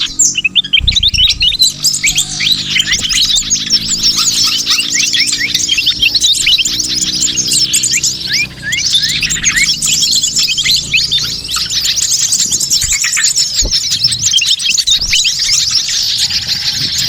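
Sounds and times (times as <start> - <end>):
many small birds chirping: 0.0 - 17.0.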